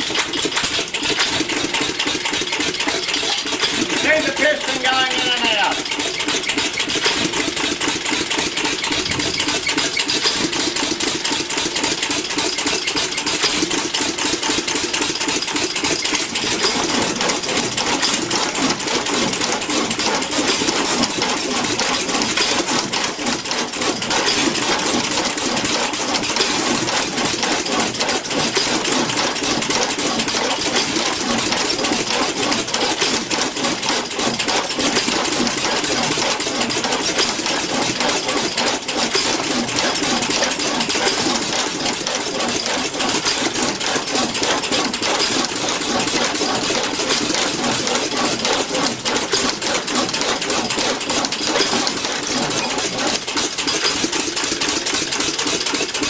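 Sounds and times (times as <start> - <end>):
stationary engine clattering: 0.0 - 56.0.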